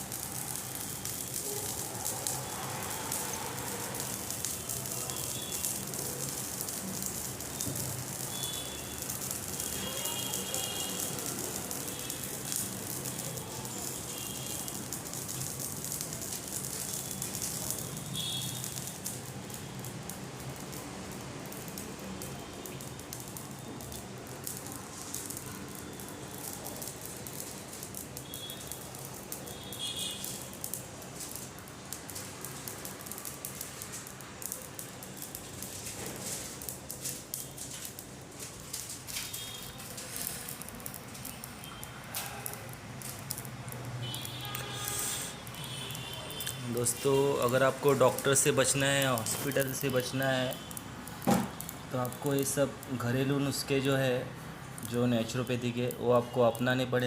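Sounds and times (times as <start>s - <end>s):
seeds crackling and sizzling: 0.0s - 57.0s.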